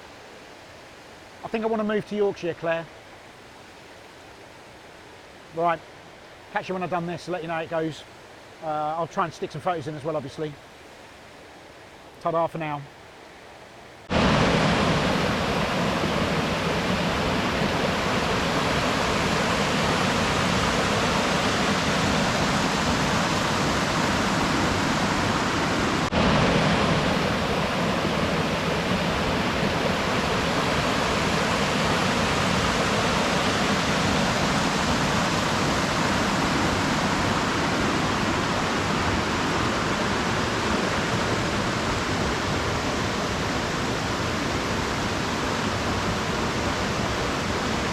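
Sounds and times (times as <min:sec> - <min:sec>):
waterfall roaring: 0:04.6 - 0:47.9.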